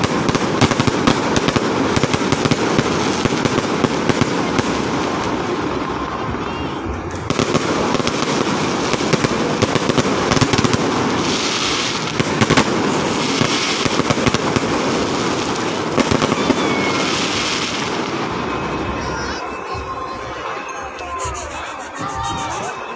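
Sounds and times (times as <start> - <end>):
fireworks crackling and banging: 0.0 - 22.9.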